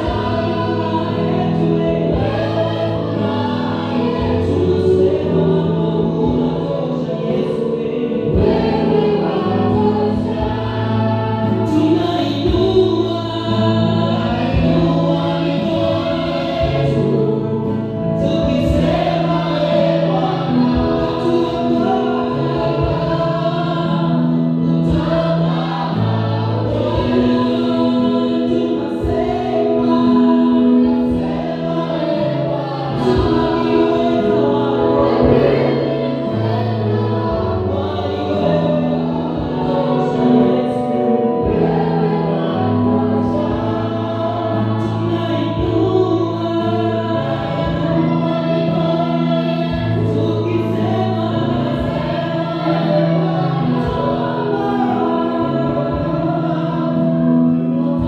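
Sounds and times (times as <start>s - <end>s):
group singing gospel song: 0.0s - 58.0s
keyboard holding chords: 0.0s - 58.0s.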